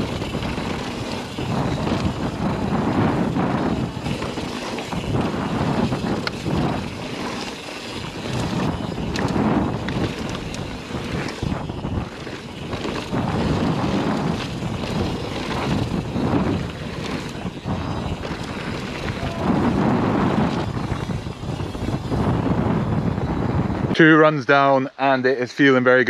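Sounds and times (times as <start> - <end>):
tyres skittering over gravel: 0.0 - 22.8
bike rattling and knocking: 0.0 - 23.8
wind on microphone: 0.0 - 24.4.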